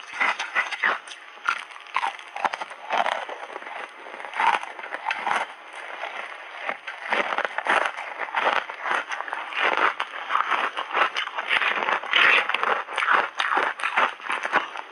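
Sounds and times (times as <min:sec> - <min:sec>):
ice crunching between teeth: 0:00.0 - 0:14.9.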